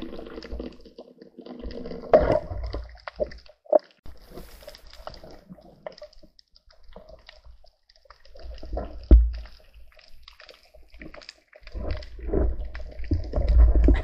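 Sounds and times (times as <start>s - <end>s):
rush of water and bubbles: 0.0s - 14.0s.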